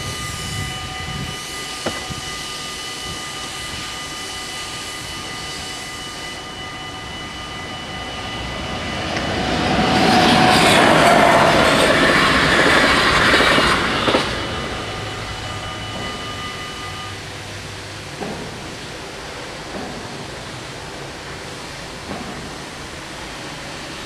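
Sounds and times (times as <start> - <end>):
level crossing warning bells: 0.0 - 23.6
train rumbling past: 0.0 - 24.0.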